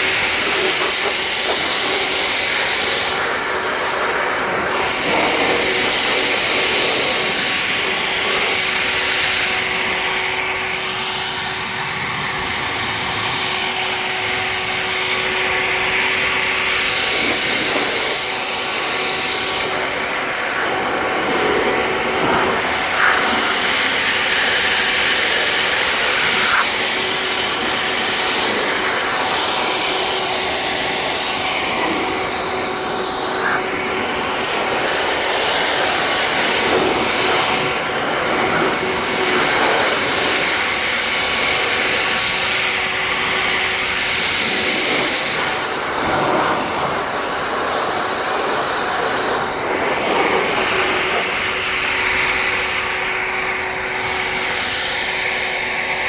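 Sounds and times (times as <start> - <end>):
handheld air blower running: 0.0 - 56.0.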